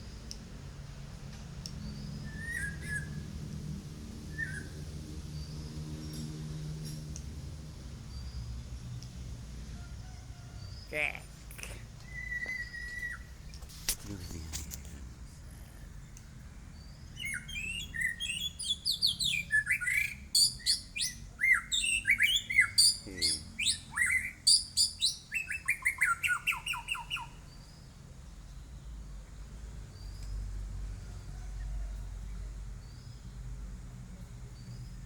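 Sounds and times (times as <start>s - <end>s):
songbird singing: 1.2s - 35.0s.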